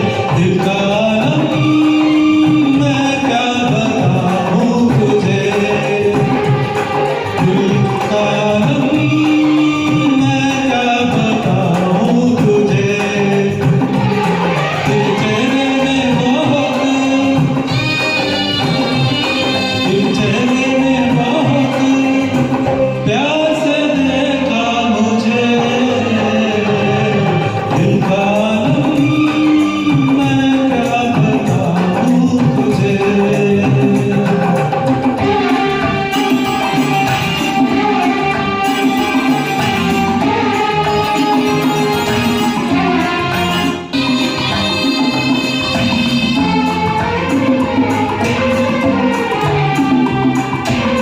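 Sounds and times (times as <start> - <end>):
person singing karaoke: 0.0 - 51.0
recorded backing track: 0.0 - 51.0.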